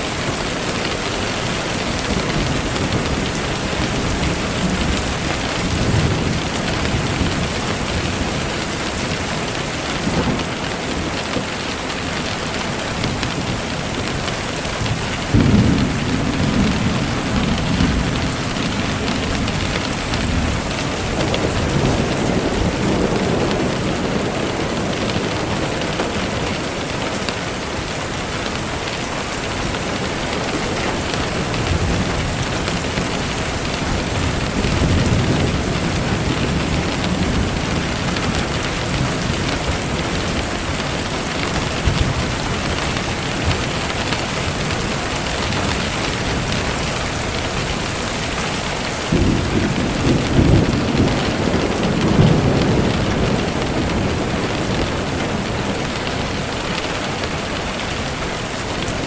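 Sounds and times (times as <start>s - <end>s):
low thunder rumbles: 0.0s - 59.0s
steady rain: 0.0s - 59.0s.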